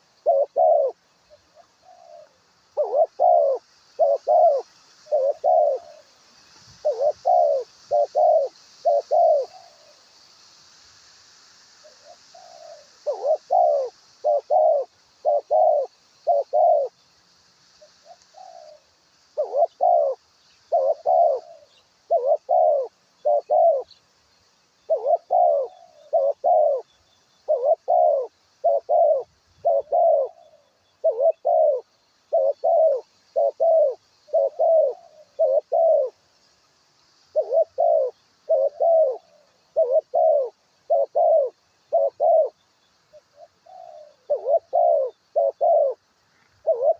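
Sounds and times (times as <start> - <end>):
dove cooing: 0.0 - 6.1, 6.7 - 10.0, 11.8 - 17.0, 18.0 - 24.0, 24.8 - 36.2, 37.3 - 46.0, 46.6 - 46.9.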